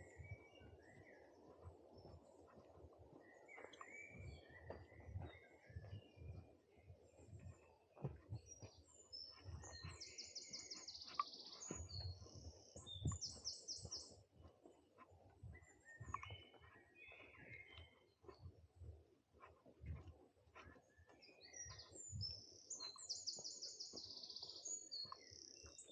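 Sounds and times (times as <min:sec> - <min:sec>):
footsteps on forest trail: 0:00.0 - 0:25.9
songbirds singing: 0:00.0 - 0:25.9.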